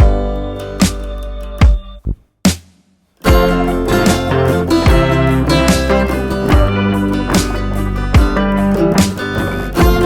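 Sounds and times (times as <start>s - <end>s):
music with strong drum hits: 0.0s - 10.0s.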